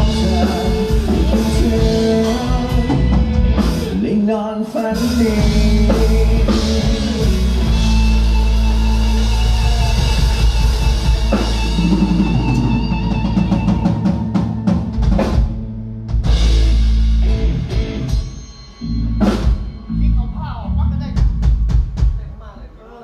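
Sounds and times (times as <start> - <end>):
live band music: 0.0 - 22.4.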